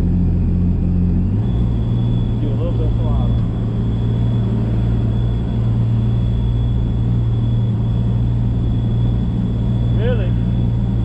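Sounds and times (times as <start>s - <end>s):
jet boat engine running: 0.0s - 11.0s.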